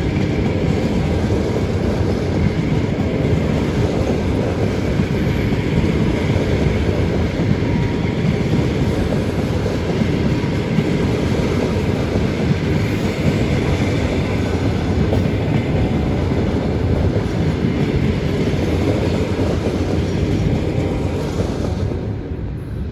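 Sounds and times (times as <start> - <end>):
clatter over track: 0.0 - 22.6
train wheels rumbling on rails: 0.0 - 22.9.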